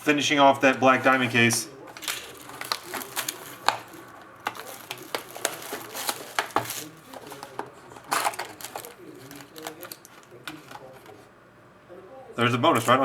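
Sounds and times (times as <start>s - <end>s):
wrapper and cardboard crinkling: 0.6s - 11.2s.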